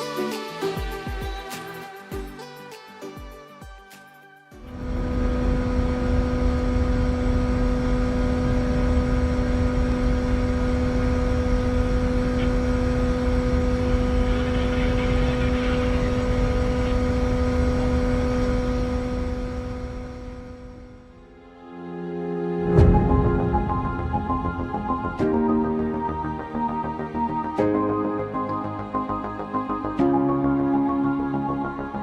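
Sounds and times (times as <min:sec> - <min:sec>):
ship engine droning: 0:04.6 - 0:32.0.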